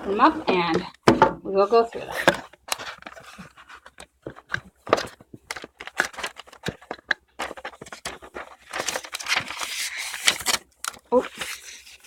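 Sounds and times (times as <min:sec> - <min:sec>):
cardboard boxes being opened: 0:02.0 - 0:12.0.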